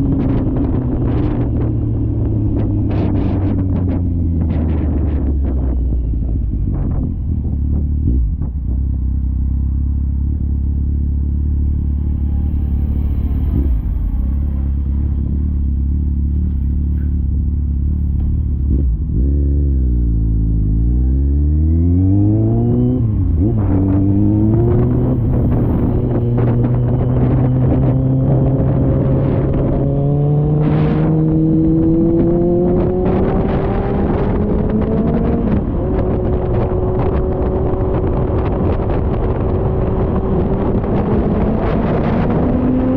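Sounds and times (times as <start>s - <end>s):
motorcycle engine: 0.0s - 42.9s
wind rumbling on microphone: 0.0s - 42.9s.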